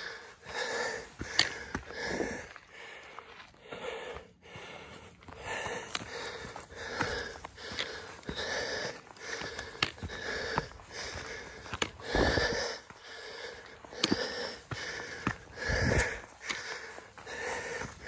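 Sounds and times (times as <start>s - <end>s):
footsteps on dirt path: 0.0s - 18.0s
person breathing hard: 0.0s - 18.0s.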